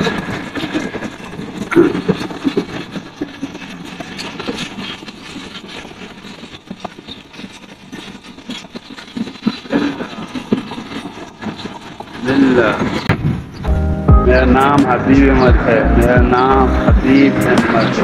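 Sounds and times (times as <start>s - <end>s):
train wheels clattering over rails: 0.0s - 13.6s, 14.6s - 18.0s.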